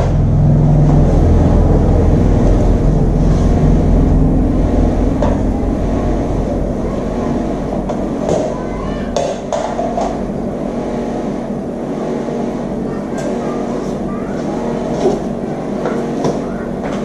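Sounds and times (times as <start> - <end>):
low mechanical rumble with hum: 0.0 - 17.0.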